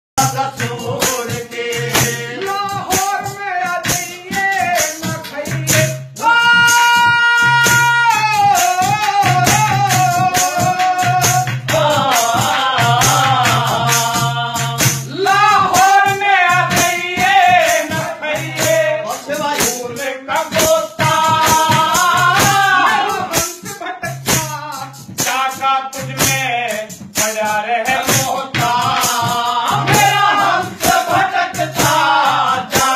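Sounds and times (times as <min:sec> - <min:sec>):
person singing: 0:00.2 - 0:24.7, 0:27.8 - 0:32.9
rattling percussion beat: 0:00.2 - 0:32.9.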